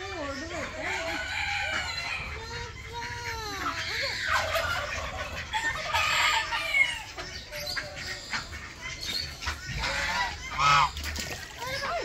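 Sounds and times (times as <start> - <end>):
fowl calling: 0.6 - 12.0.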